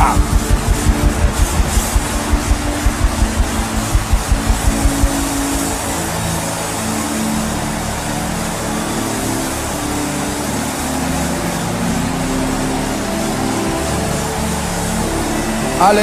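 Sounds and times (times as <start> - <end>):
low sustained tones: 0.0 - 16.0.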